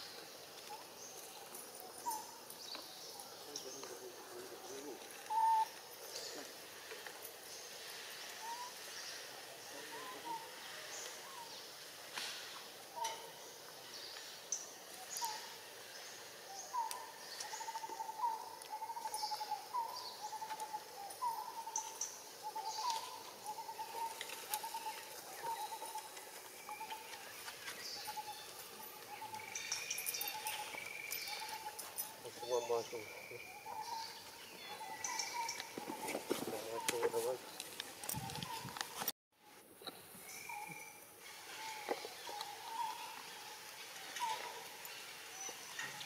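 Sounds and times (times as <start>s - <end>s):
birds chirping: 0.0s - 39.1s, 39.8s - 46.0s.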